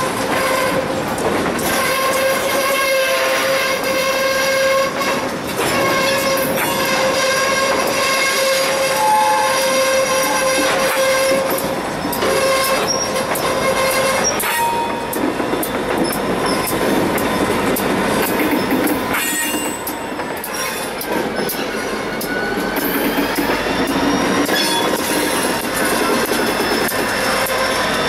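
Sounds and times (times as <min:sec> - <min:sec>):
diesel locomotives passing: 0:00.0 - 0:28.0
wheels clicking over rail joints: 0:00.0 - 0:28.0
train wheels squealing: 0:01.6 - 0:28.0.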